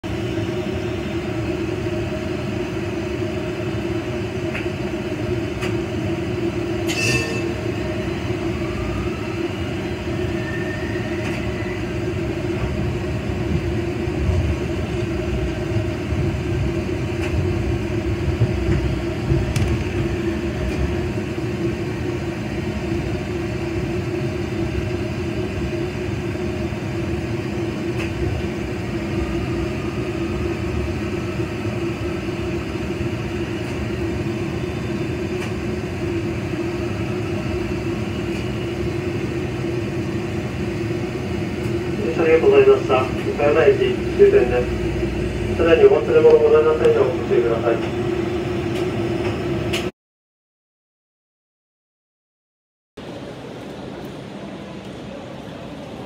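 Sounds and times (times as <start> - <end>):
tram hum and rumble: 0.0 - 49.9, 53.0 - 56.0.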